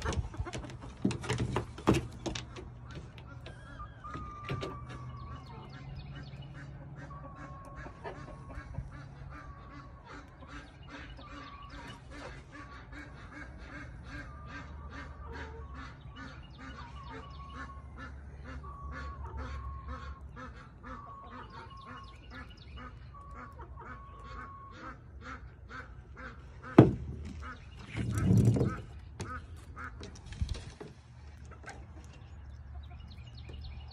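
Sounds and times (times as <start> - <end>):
fowl calling: 2.8 - 30.2.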